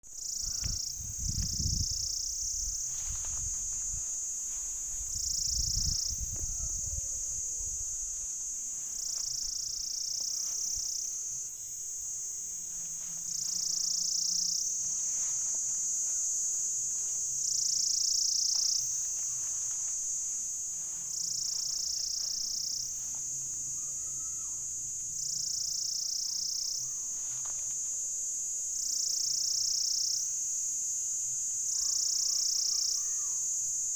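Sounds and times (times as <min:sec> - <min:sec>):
cicada buzzing: 0:00.1 - 0:33.9.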